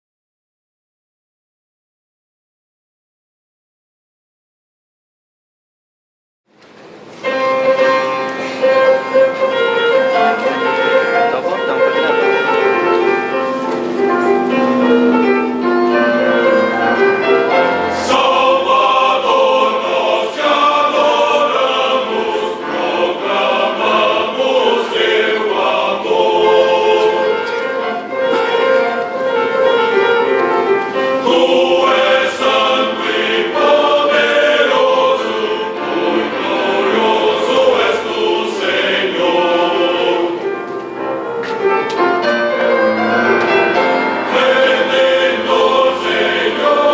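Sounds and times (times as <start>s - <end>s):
instrumental accompaniment: 6.5s - 46.9s
choir singing a hymn: 7.2s - 46.9s.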